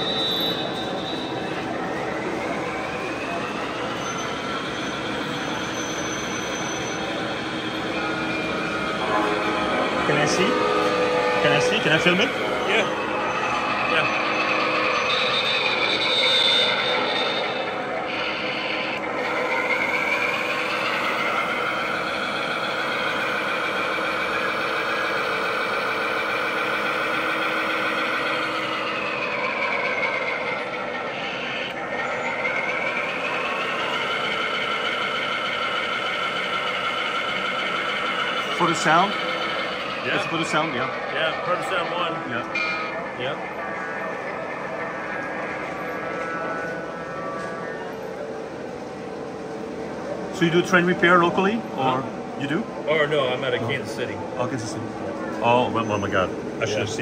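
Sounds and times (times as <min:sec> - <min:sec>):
model trains rolling on rails: 0:00.0 - 0:57.0.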